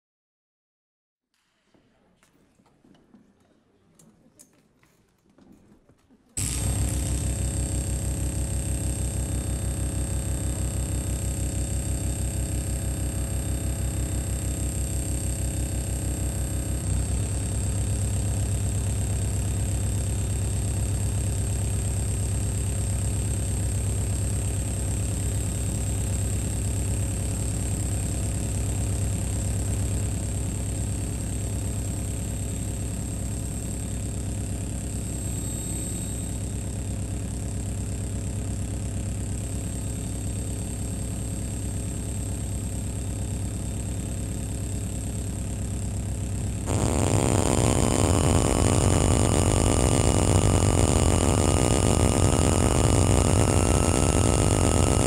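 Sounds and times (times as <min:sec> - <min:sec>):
high whine: 0:06.4 - 0:38.1, 0:38.9 - 0:55.0
electronic noise drone: 0:06.4 - 0:55.0.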